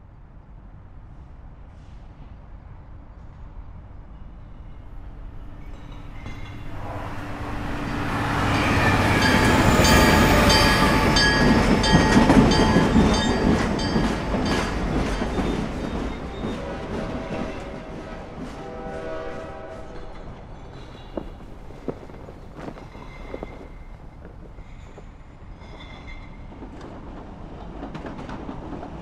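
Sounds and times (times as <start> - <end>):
diesel locomotive passing: 0.1 - 29.0.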